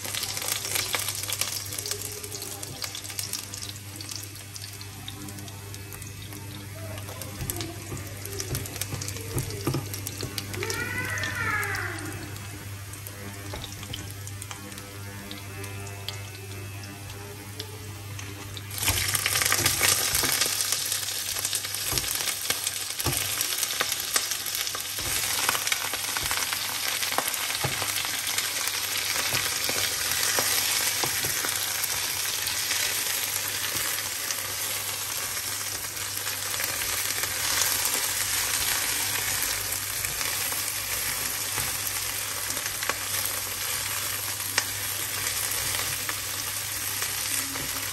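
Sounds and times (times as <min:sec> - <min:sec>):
food sizzling in oil: 0:00.0 - 0:47.9.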